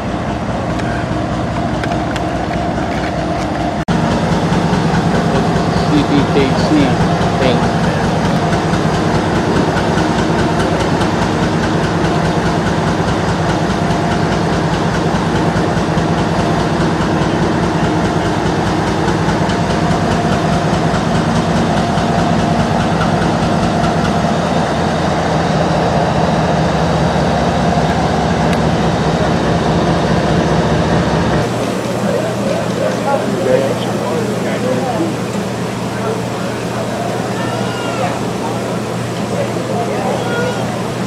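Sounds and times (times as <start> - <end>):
diesel locomotive idling: 0.0 - 41.0.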